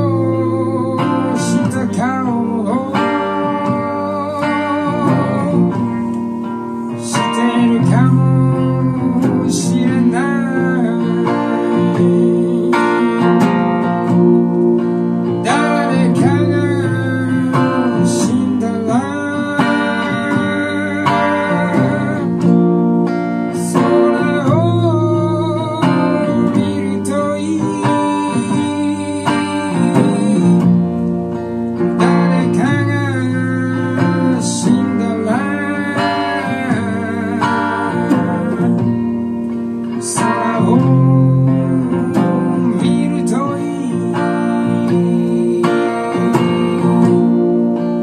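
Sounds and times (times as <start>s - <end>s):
man singing: 0.0s - 48.0s
strummed electric guitar: 0.0s - 48.0s.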